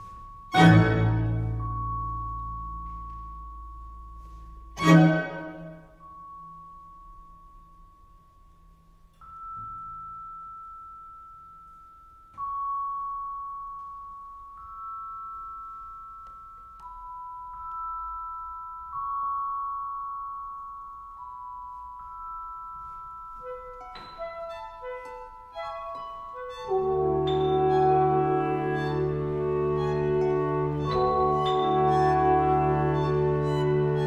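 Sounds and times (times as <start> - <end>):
metal mallet percussion notes: 0.0 - 34.0.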